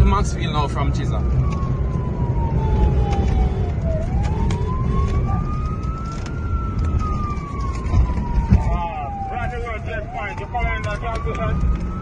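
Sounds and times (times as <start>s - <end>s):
car engine and road rumble: 0.0s - 12.0s
police siren wailing: 0.0s - 12.0s.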